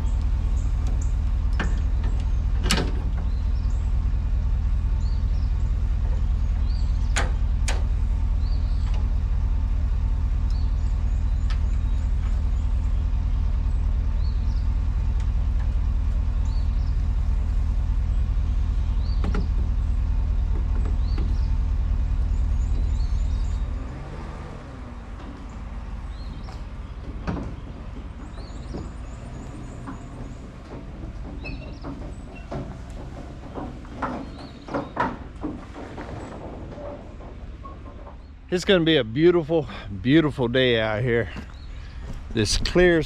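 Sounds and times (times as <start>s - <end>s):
knocks and clanks: 0.0s - 24.0s, 24.8s - 39.0s
vehicle engine rumbling: 0.0s - 43.0s.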